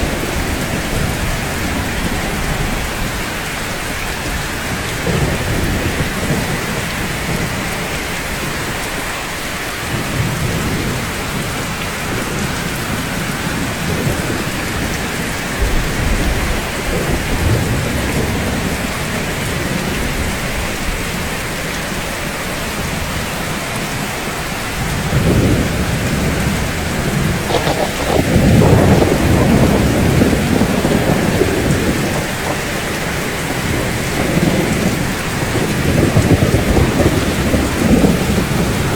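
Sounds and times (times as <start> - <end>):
rolling thunder: 0.0 - 9.0, 9.8 - 21.4, 24.6 - 38.9
heavy rain hissing: 0.0 - 38.9.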